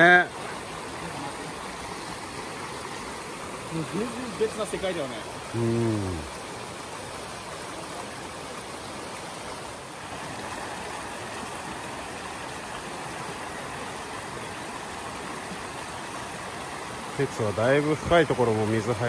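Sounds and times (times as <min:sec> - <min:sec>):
mountain stream flowing: 0:00.0 - 0:19.0.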